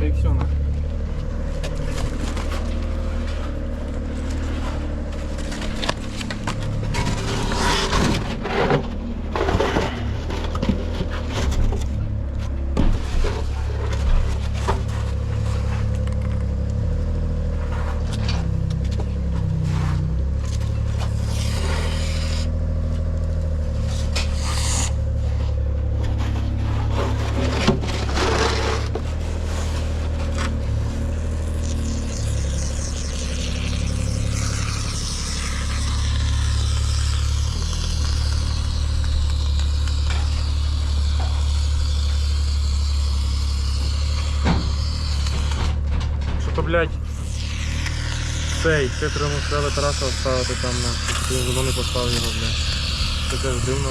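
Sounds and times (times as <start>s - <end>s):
scraping: 0.0s - 53.9s.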